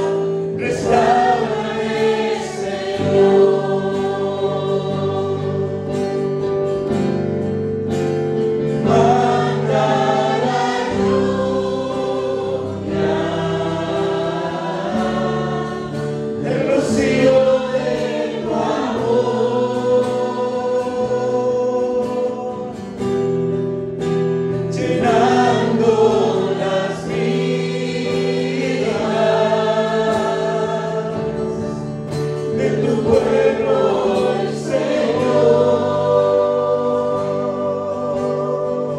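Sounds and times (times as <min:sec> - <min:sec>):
choir singing worship song: 0:00.0 - 0:38.9
long held accompanying chords: 0:00.0 - 0:38.9.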